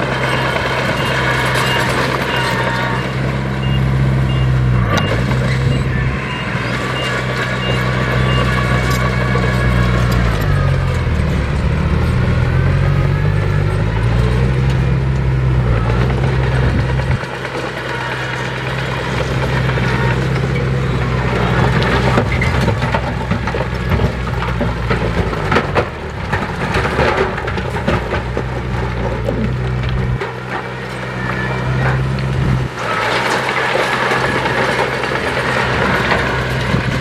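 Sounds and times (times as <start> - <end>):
diesel engine drone: 0.0 - 37.0
soil and debris crunching: 0.0 - 37.0.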